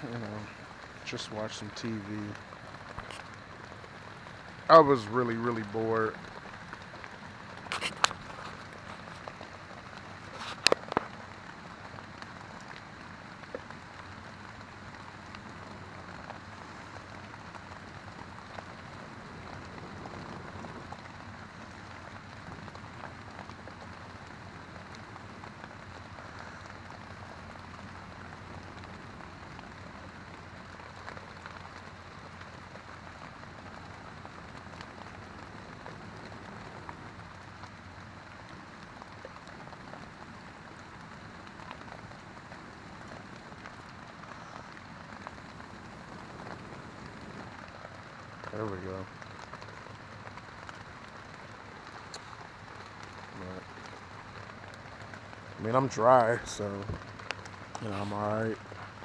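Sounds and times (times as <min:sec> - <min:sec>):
rain on a tent: 0:00.0 - 0:59.0.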